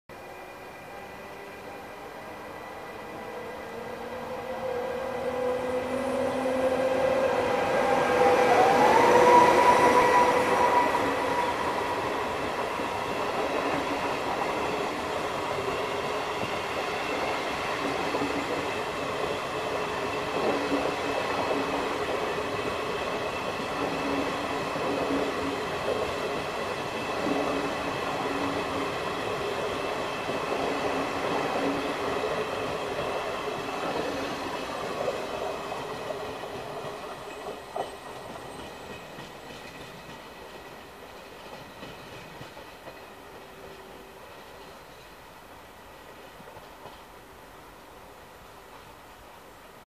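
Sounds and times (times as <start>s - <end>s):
electric locomotive whine: 0.1s - 49.8s
train wheels rumbling and clattering: 2.8s - 47.4s, 48.6s - 49.5s.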